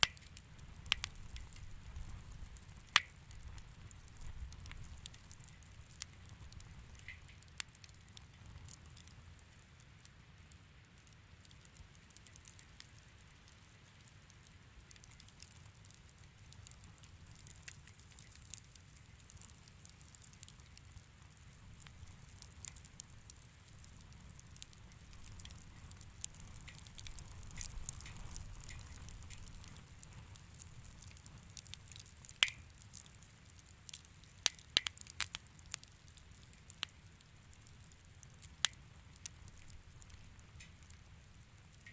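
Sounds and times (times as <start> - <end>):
low rumble of fire: 0.0 - 41.9
wood fire crackling: 0.0 - 41.9.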